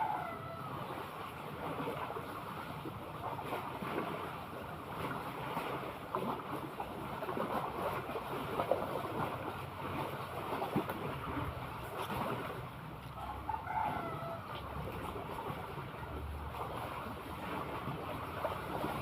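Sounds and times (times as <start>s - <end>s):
seawater lapping and splashing: 0.0s - 19.0s.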